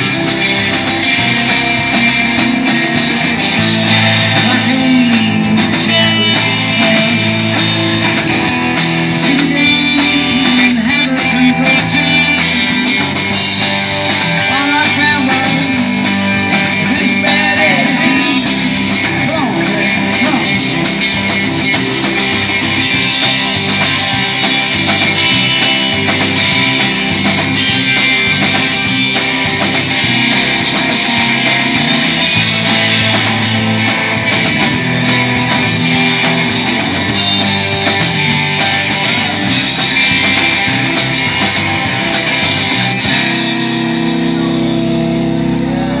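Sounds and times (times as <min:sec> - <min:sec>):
live band playing: 0:00.0 - 0:46.0.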